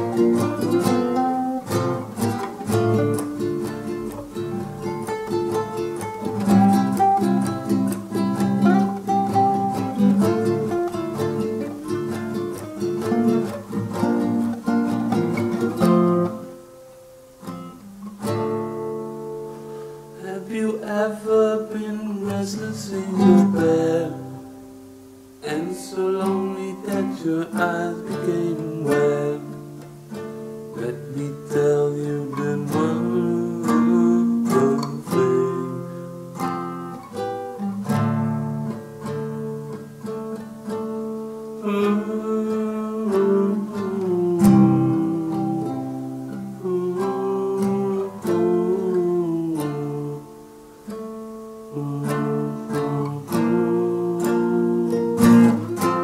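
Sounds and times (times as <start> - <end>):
solo acoustic guitar: 0.0 - 56.0.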